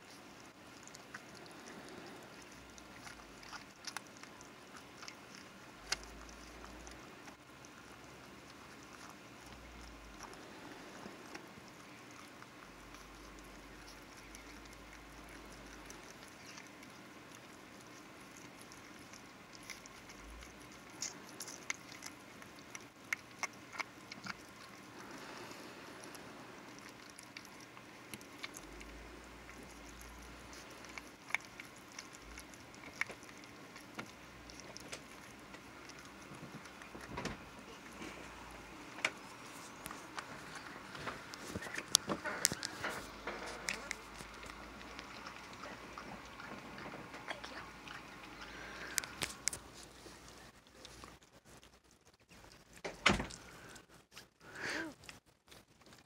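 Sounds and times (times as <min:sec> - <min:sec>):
dog licking puppies: 0:00.0 - 0:56.0.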